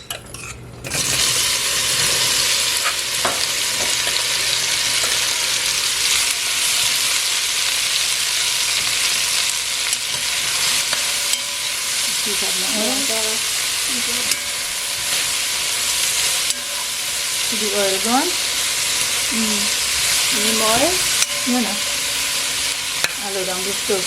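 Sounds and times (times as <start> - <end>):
okra sizzling in hot oil: 0.4 - 24.0.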